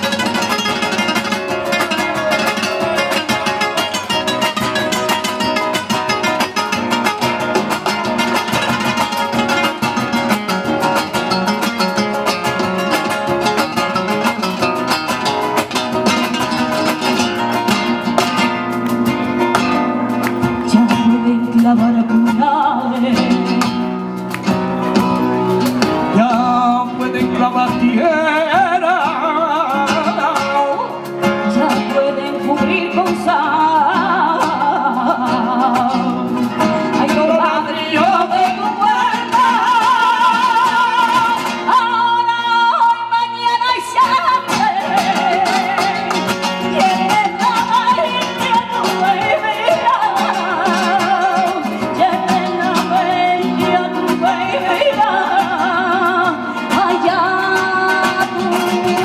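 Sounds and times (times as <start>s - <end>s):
woman singing: 0.0s - 18.5s, 20.4s - 24.1s, 25.6s - 59.0s
cajon drumming: 0.0s - 59.0s
flamenco guitars: 0.0s - 59.0s.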